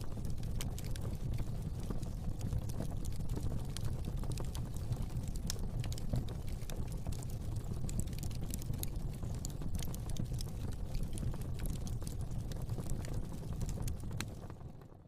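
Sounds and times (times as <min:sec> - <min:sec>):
fire crackling in fireplace: 0:00.0 - 0:15.0.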